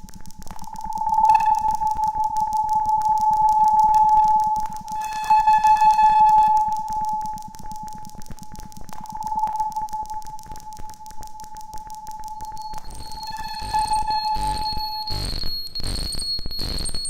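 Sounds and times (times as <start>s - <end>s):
crackling clicks: 0.0s - 17.0s
buzzy overtone layer: 0.4s - 15.4s
synthesizer whistling tone: 0.7s - 8.0s, 8.6s - 15.2s.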